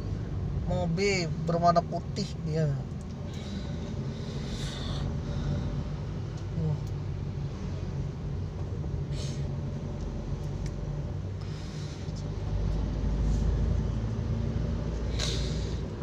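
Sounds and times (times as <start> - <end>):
car engine hum: 0.0 - 16.0
road rumble: 0.0 - 16.0.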